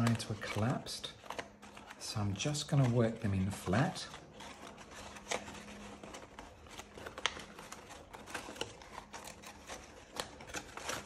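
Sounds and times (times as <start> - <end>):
folded paper rustling and crackling: 0.0 - 11.0.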